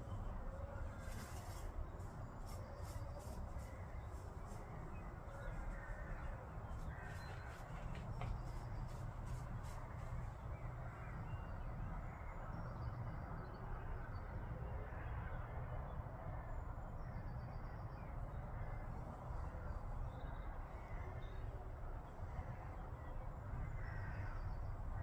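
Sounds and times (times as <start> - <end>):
low outdoor background noise: 0.0 - 25.0.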